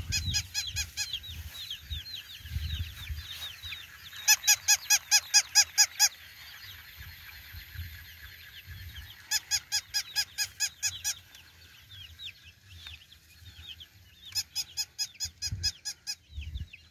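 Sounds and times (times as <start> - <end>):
chicks peeping: 0.0 - 16.9.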